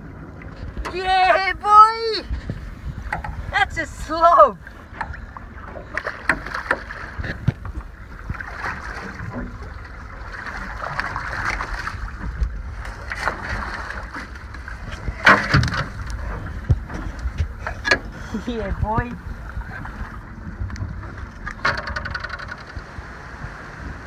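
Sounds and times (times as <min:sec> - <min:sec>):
water: 0:00.0 - 0:24.0
wind: 0:00.0 - 0:24.0.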